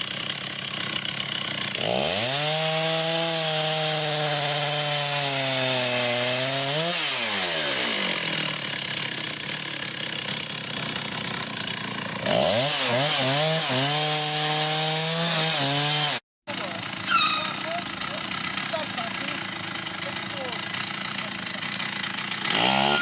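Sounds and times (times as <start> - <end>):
chainsaw running: 0.0 - 23.0.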